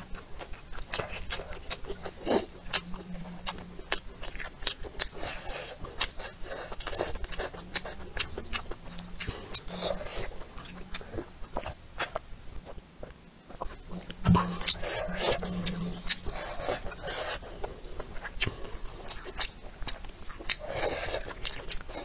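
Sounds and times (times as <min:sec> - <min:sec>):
person chewing wetly: 0:00.0 - 0:22.0.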